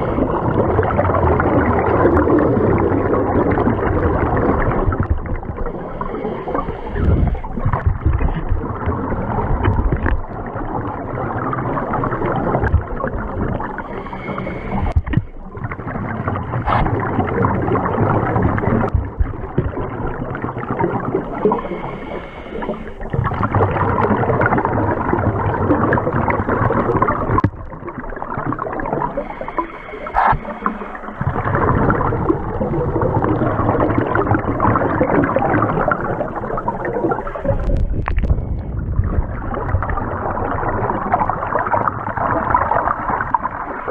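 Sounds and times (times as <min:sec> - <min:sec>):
underwater rushing water: 0:00.0 - 0:43.9.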